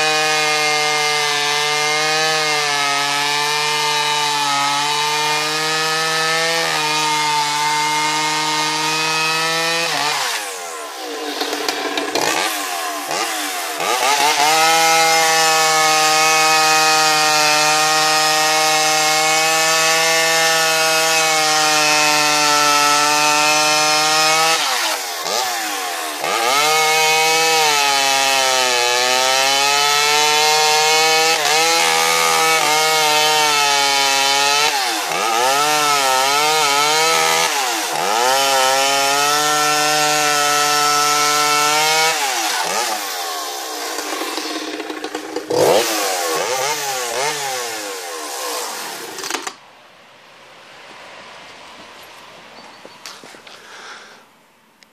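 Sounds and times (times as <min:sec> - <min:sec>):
chainsaw cutting log: 0:00.0 - 0:49.6, 0:52.8 - 0:54.2.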